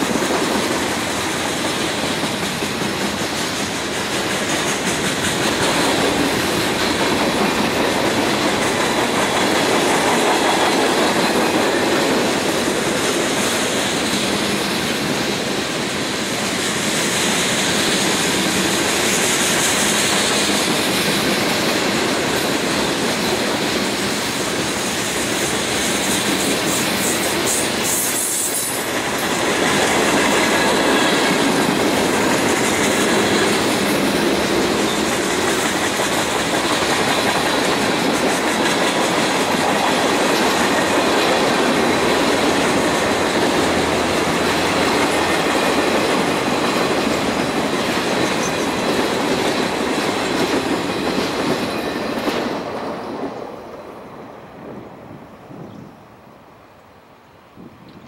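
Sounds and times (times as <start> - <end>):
freight train wheels clacking: 0.0 - 54.3.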